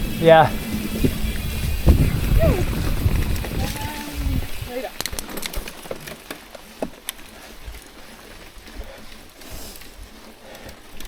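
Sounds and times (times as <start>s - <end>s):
bike clicks and knocks: 0.0s - 11.0s
bike rolling on wet trail: 0.0s - 11.0s.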